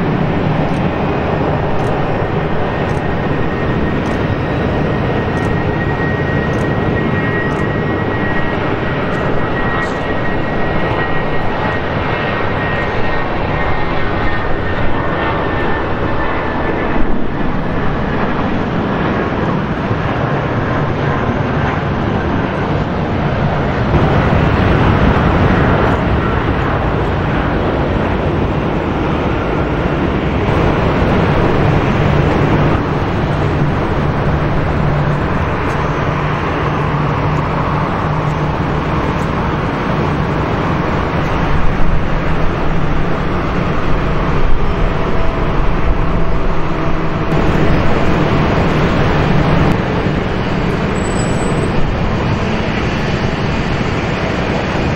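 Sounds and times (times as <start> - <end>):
airport background noise: 0.0 - 54.9
jet engines idling: 0.0 - 54.9.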